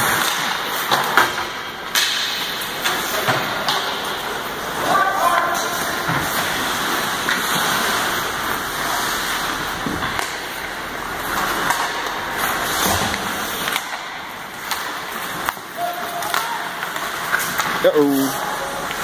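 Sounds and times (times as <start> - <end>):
skates scraping on ice: 0.0 - 19.0.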